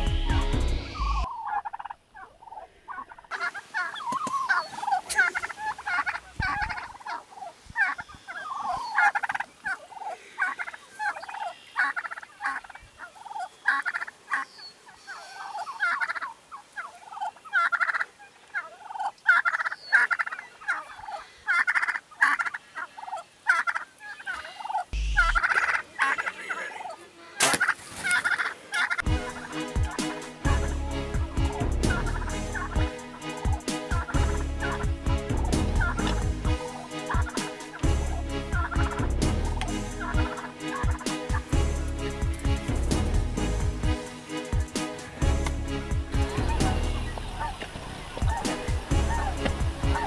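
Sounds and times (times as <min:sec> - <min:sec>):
turkeys calling: 0:00.0 - 0:50.0.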